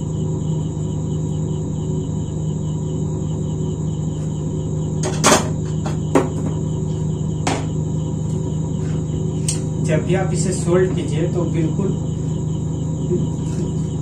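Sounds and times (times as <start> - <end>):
faint high whine: 0.0 - 14.0
steady low hum: 0.0 - 14.0.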